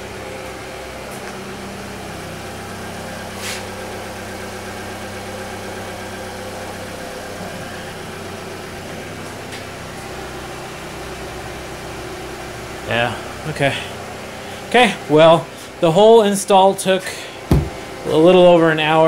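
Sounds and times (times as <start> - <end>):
electrical buzzing: 0.0 - 18.9
car engine idling: 0.0 - 19.0.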